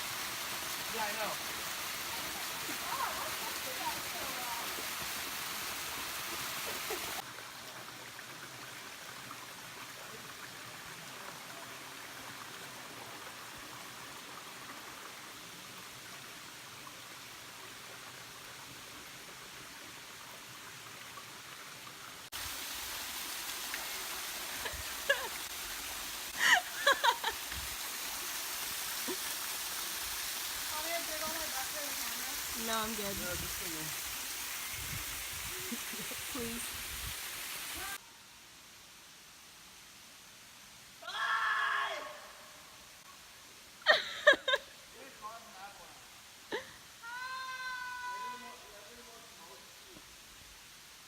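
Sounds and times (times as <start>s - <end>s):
flowing water rushing: 0.0s - 41.0s.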